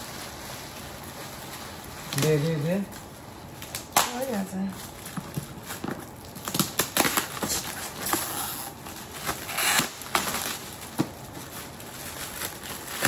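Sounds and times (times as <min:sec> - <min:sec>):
wrapping paper crinkling: 0:00.0 - 0:13.0.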